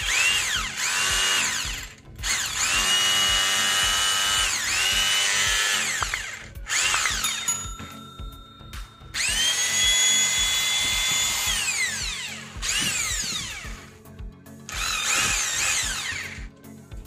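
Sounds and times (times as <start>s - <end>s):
rotary hammer motor whining: 0.0s - 7.5s, 9.2s - 13.9s, 14.7s - 16.5s.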